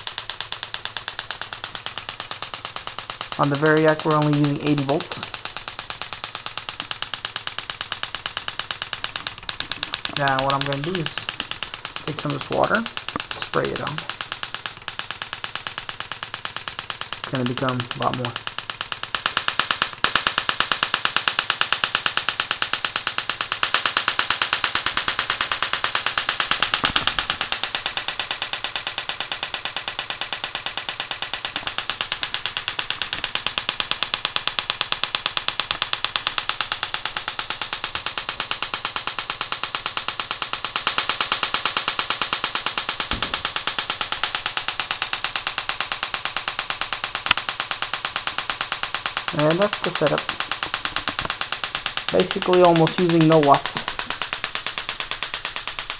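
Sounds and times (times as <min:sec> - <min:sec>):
electric spark snapping: 0:00.0 - 0:55.9.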